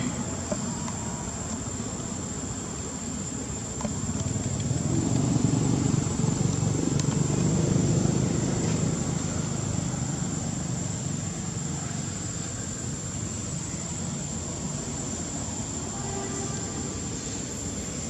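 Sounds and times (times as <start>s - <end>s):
passing motor vehicle rumble: 0.0s - 18.0s.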